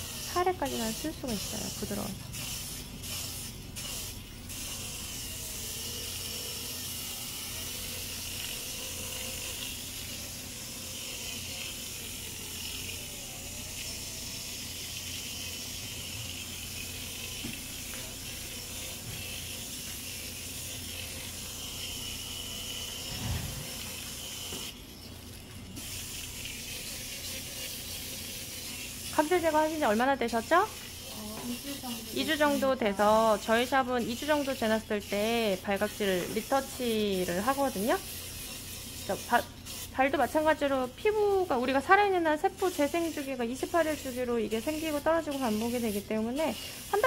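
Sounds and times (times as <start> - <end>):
foot drill motor whirring: 0.0 - 39.9.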